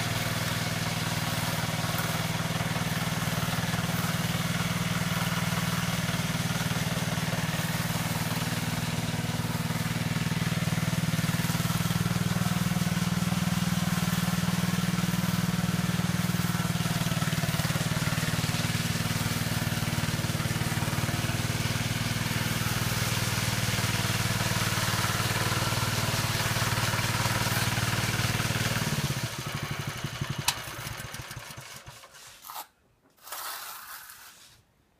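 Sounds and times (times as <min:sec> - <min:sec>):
power trowel engine droning: 0:00.0 - 0:32.6.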